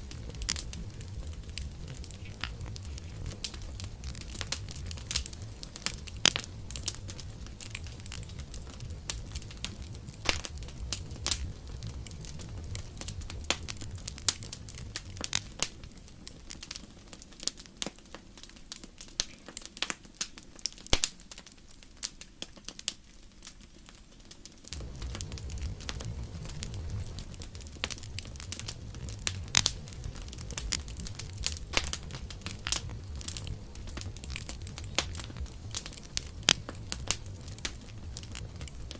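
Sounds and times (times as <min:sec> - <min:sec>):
low rumble of flame: 0:00.0 - 0:38.9
wood fire crackling and popping: 0:00.0 - 0:38.9.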